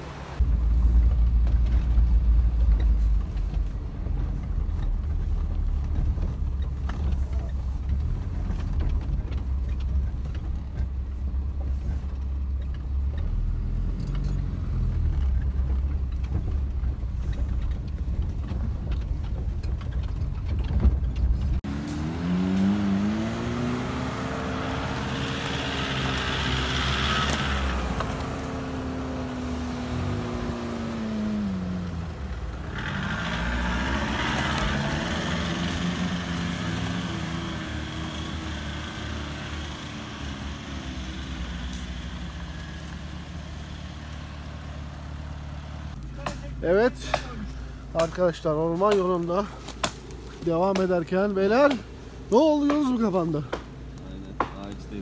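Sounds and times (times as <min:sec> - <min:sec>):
car engine revving under load: 0:00.0 - 0:55.0
vehicle rumbling over rough track: 0:00.0 - 0:55.0.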